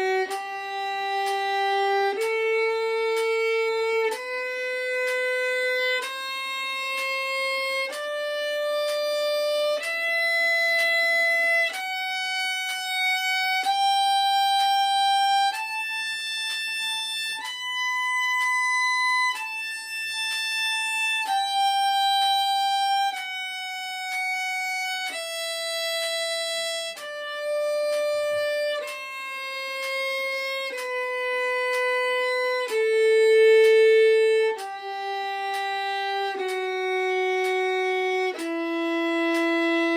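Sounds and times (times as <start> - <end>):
violin playing bowed scale: 0.0 - 39.9.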